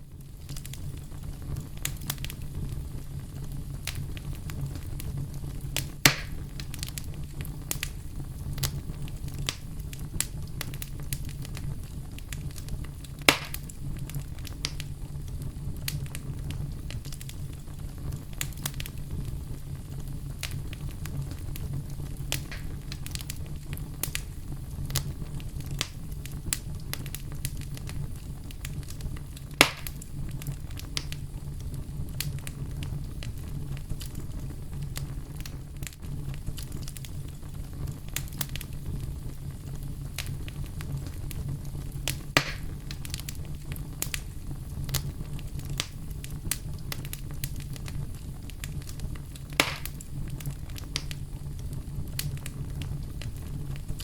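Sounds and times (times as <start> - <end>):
bonfire burning with crackles: 0.0 - 54.0
loud fire pops: 0.0 - 54.0.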